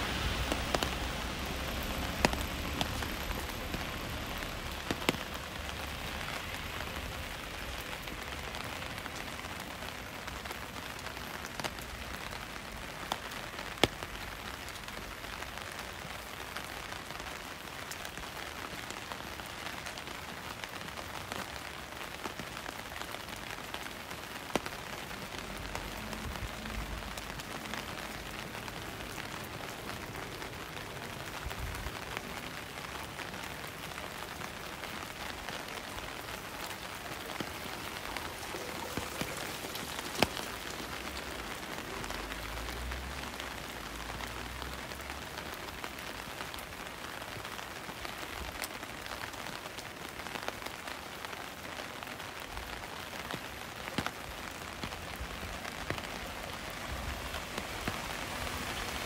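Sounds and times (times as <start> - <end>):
sharp rain ticks: 0.0 - 59.0
steady rain hissing: 0.0 - 59.0.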